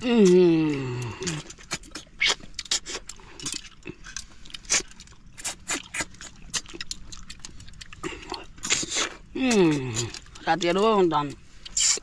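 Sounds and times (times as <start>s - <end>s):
people slurping snails: 0.0s - 10.7s, 11.7s - 12.0s
chewing: 0.0s - 12.0s.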